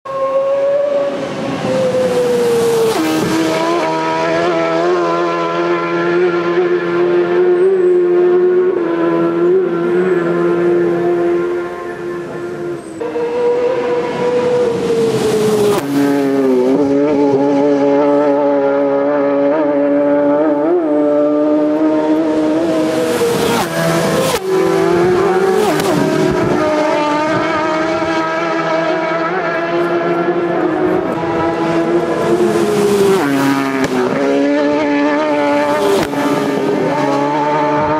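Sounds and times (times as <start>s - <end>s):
motorcycle engine passing at high revs: 0.1s - 37.9s.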